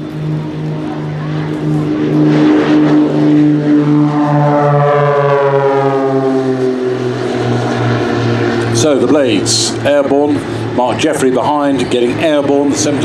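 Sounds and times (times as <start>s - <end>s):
propeller planes passing: 0.0s - 13.0s.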